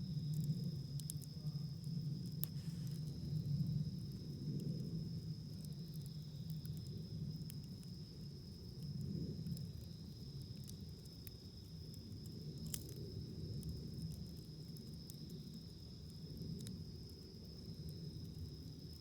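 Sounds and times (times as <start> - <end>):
campfire crackling and popping: 0.2 - 19.0.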